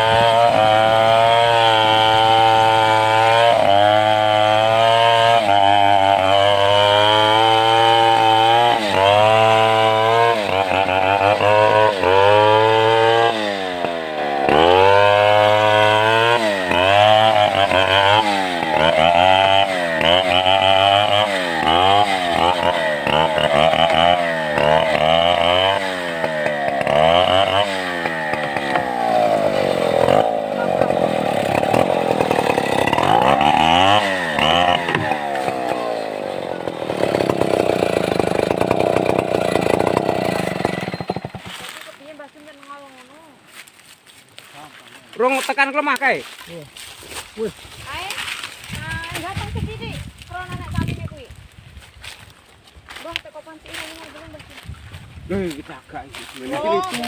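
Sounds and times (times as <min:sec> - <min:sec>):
chainsaw running hard: 0:00.0 - 0:43.7, 0:45.2 - 0:52.3, 0:52.9 - 0:57.0.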